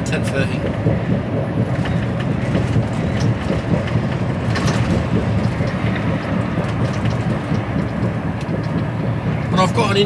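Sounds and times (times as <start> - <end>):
engine and road rumble: 0.0 - 10.0
cab clicks and rattles: 1.6 - 10.0.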